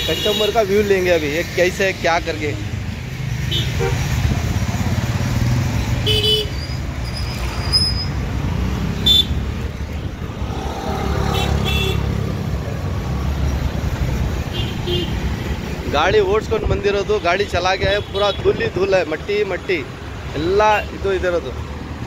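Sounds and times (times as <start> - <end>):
rumble of passing vehicles: 0.0 - 22.0.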